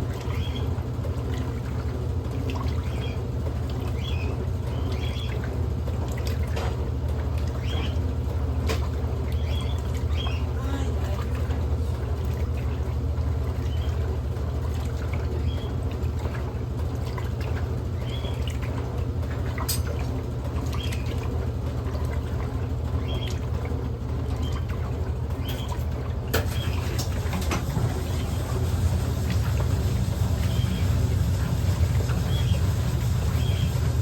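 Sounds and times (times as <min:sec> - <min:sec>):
washing machine motor hum: 0:00.0 - 0:34.0
water churning and sloshing: 0:00.0 - 0:34.0.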